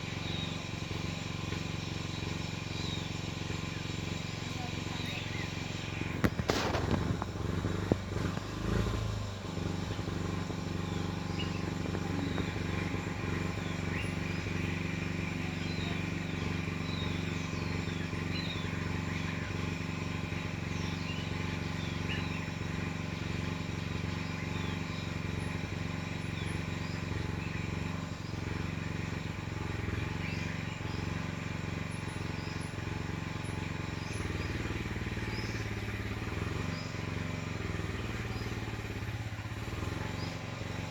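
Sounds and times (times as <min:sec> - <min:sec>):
engine running steadily: 0:00.0 - 0:40.9
small birds chirping: 0:00.0 - 0:40.9.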